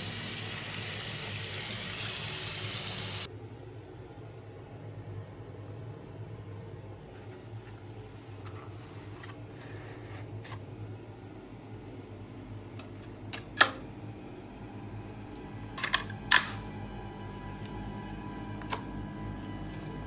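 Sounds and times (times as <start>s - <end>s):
steady low hum: 2.6s - 20.0s.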